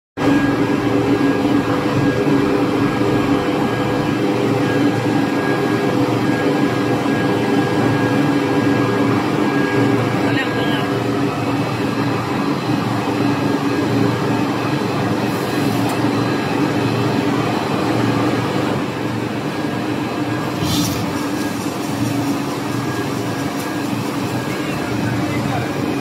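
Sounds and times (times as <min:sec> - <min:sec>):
production line machine humming: 0:00.2 - 0:26.0.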